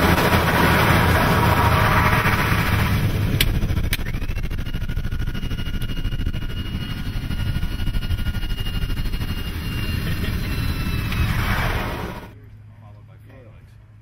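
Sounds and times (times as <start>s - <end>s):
high-pitched engine tones: 0.0s - 12.4s
turboprop engines rumbling: 0.0s - 14.0s.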